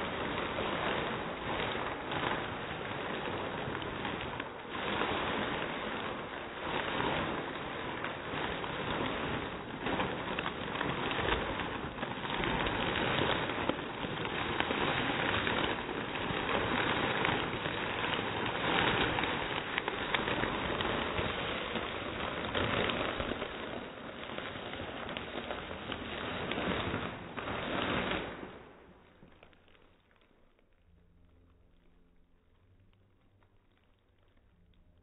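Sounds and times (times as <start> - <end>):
chip bag crinkling: 0.0 - 35.0.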